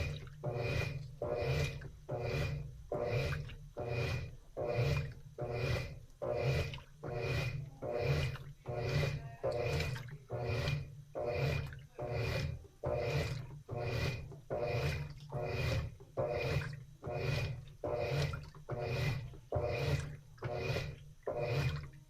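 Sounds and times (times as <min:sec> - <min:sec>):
washing machine agitating: 0:00.0 - 0:22.0.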